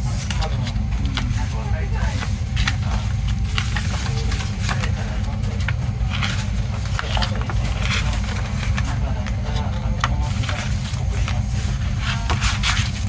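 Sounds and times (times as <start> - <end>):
plastic and paper packaging rustling: 0.0 - 13.0
steady low rumble: 0.0 - 13.0.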